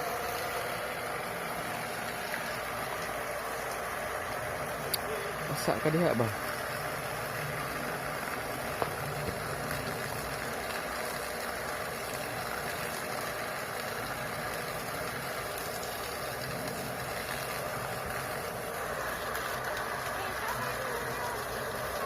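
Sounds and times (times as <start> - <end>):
water pump running: 0.0 - 22.0.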